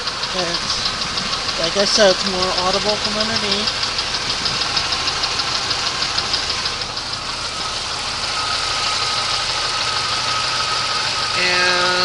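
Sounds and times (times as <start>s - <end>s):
car engine idling: 0.0s - 12.0s
rhythmic engine knock: 0.0s - 12.0s
steady high whine: 0.0s - 12.0s.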